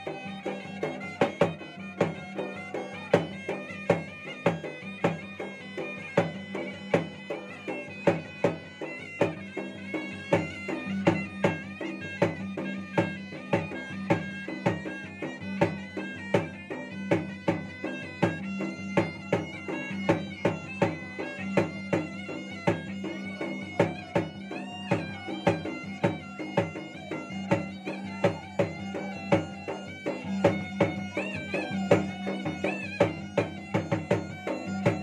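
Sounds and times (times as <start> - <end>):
drums beaten in driving rhythm: 0.0 - 35.0
reedy shawm melody: 0.0 - 35.0.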